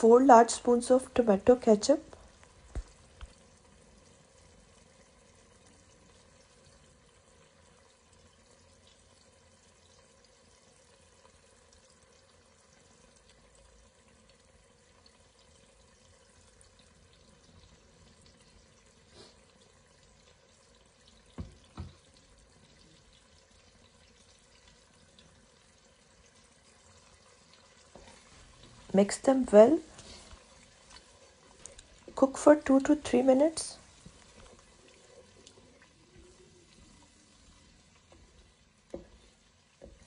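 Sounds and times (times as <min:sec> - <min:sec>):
sauce simmering in a pot: 0:00.0 - 0:40.0.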